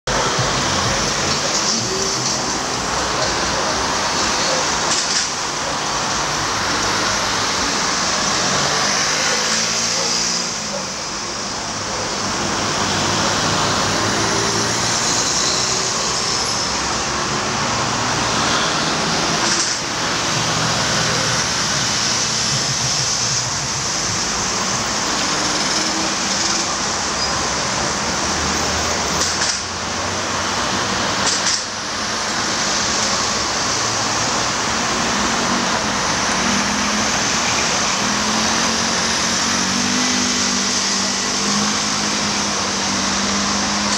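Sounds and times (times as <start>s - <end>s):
cars passing: 0.0s - 43.9s
hiss of tyres and engines: 0.1s - 43.9s.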